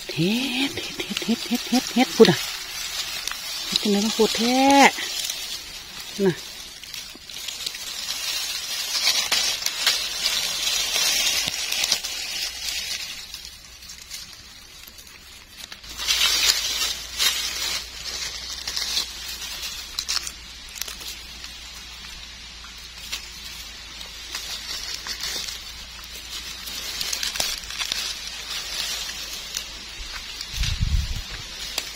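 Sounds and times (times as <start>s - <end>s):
dry leaves rustling and crackling: 0.0s - 31.9s.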